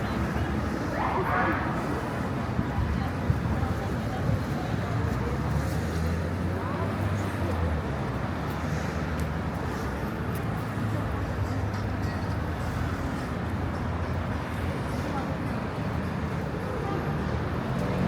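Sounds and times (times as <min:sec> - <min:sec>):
faint voices of passers-by: 0:00.0 - 0:18.0
traffic engine rumble: 0:00.0 - 0:18.0.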